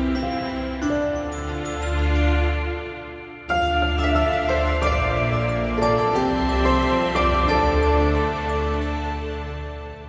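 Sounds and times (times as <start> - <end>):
slow soft melodic music: 0.0 - 10.0.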